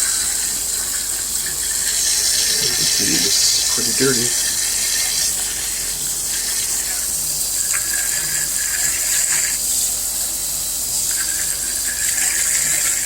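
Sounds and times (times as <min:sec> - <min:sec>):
tap water running and splashing: 0:00.0 - 0:13.0.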